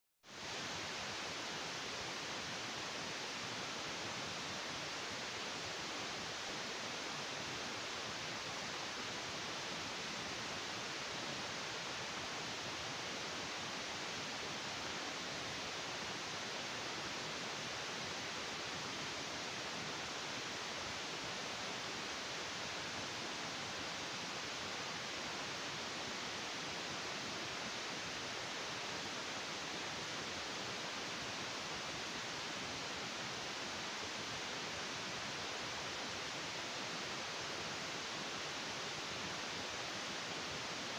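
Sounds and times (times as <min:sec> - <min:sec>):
steady hiss: 0:00.3 - 0:40.9.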